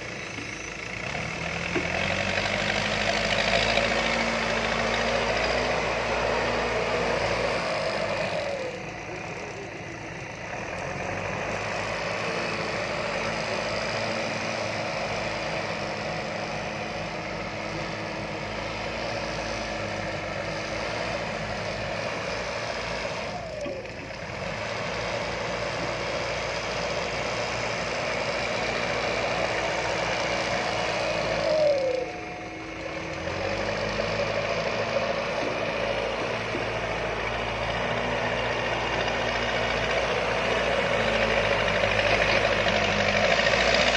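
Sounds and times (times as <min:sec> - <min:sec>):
diesel engines of earthmoving machines: 0:00.0 - 0:43.9.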